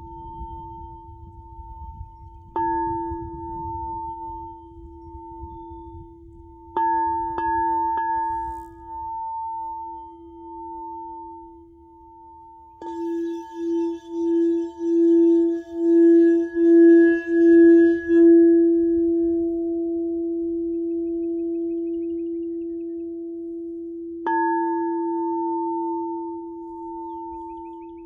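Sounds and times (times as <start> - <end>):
crystal singing bowl ringing: 0.0 - 28.0.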